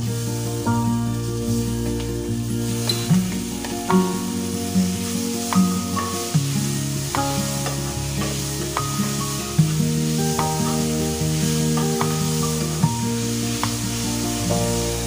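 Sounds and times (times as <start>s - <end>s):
background music: 0.0s - 15.0s
food sizzling in a frying pan: 0.0s - 15.0s.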